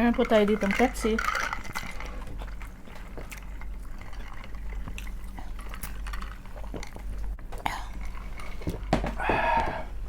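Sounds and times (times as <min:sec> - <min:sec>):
eating crisp clicks and crackles: 0:00.0 - 0:08.9.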